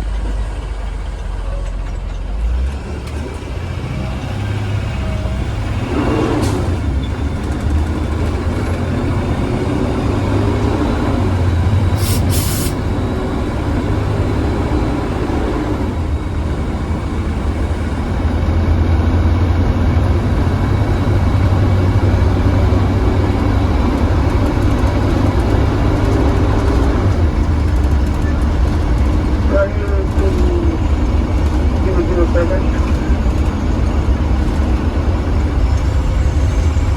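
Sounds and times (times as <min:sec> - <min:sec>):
bus engine drone: 0:00.0 - 0:36.9.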